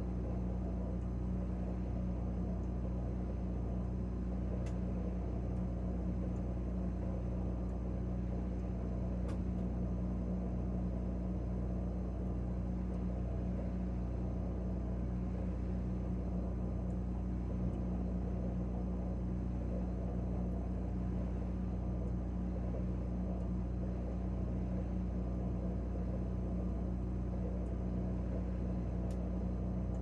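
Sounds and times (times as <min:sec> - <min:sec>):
refrigerator humming: 0:00.0 - 0:30.0.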